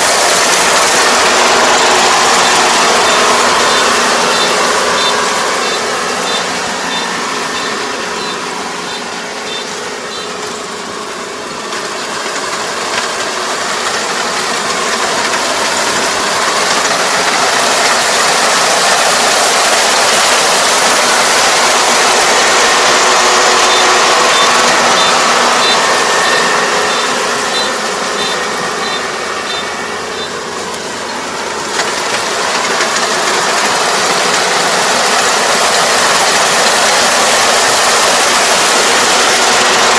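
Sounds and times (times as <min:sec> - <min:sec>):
combine harvester clattering: 0:00.0 - 0:39.9.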